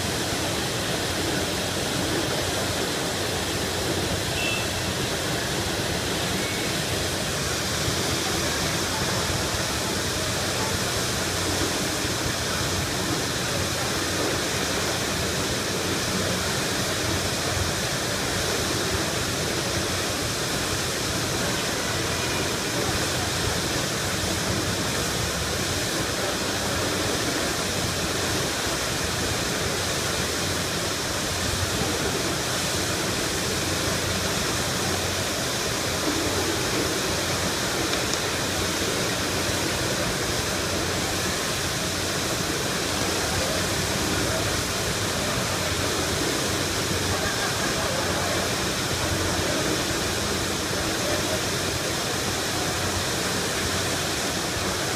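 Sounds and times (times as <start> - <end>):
water gushing from fire hydrant: 0.0 - 54.9.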